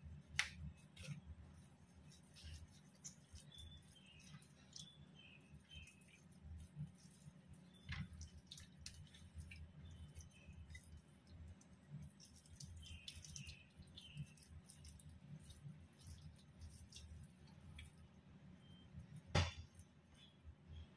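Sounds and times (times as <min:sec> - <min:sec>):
hands squishing raw chicken: 0:00.0 - 0:20.2.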